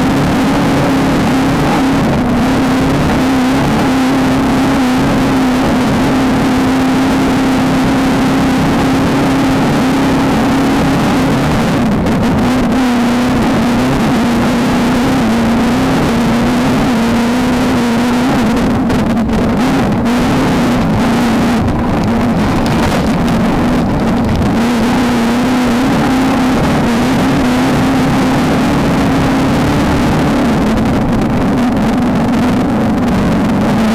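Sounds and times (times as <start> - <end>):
race car engine at high revs: 0.0 - 33.9
wind and road noise: 0.0 - 33.9.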